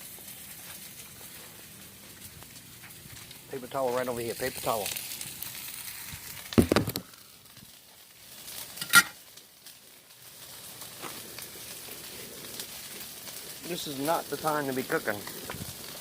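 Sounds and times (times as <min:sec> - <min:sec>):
food sizzling on a griddle: 0:00.0 - 0:16.0.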